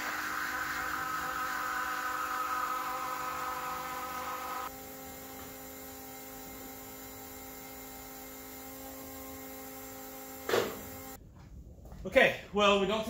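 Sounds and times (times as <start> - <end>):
electric fuel pump humming: 0.0 - 11.2.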